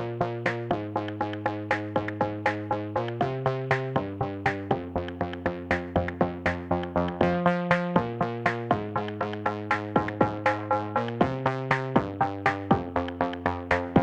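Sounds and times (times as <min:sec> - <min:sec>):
electronic synthesizer music: 0:00.0 - 0:14.0.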